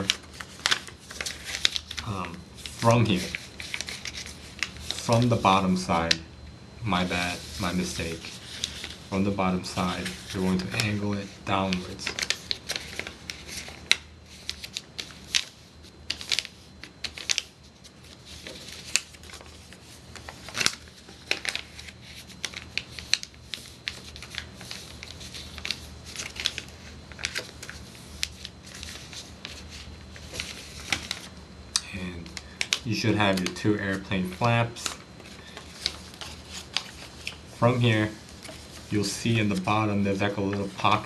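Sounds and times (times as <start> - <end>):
paper folding and crinkling: 0.0 - 6.2, 6.9 - 31.4, 32.2 - 41.0
low steady hum: 0.0 - 41.0.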